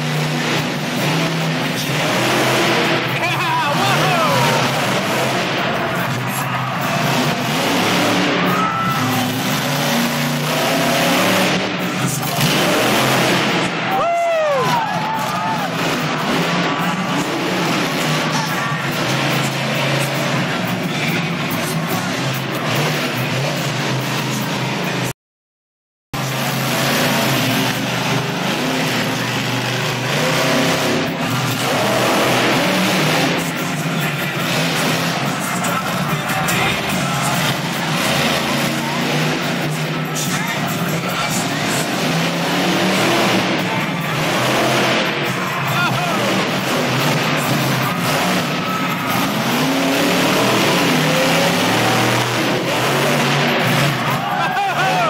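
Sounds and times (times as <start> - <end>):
truck engine running hard: 0.0 - 25.2, 26.1 - 55.0
music playing: 1.0 - 25.1, 26.3 - 55.0.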